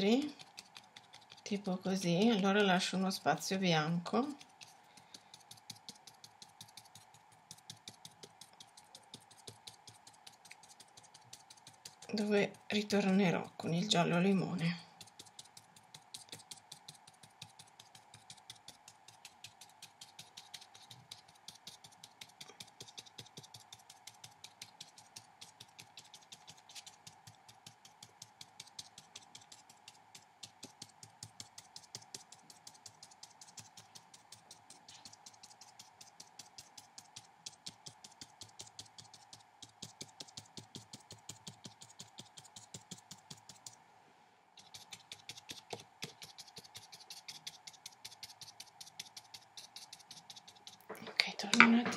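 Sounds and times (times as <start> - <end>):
faint steady hum: 0.0 - 51.9
paintbrush tapping on paper: 4.2 - 13.2, 15.0 - 43.7, 44.6 - 51.9.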